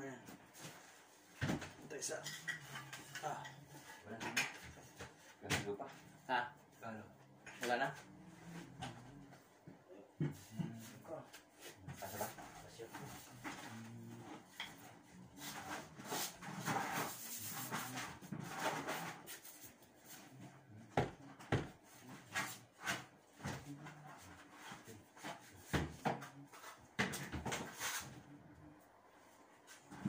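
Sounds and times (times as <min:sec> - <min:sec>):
rustling and scraping: 0:00.3 - 0:30.0.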